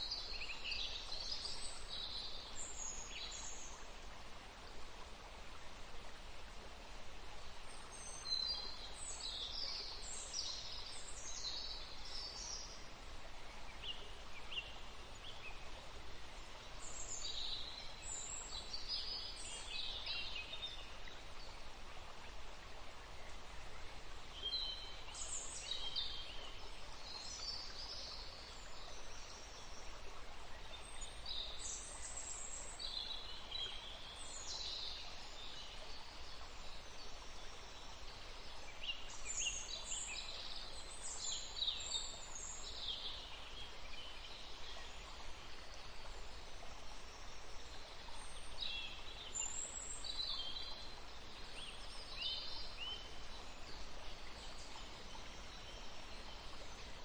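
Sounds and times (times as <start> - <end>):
songbirds chirping: 0.0 - 57.0
steady background hiss: 0.0 - 57.0.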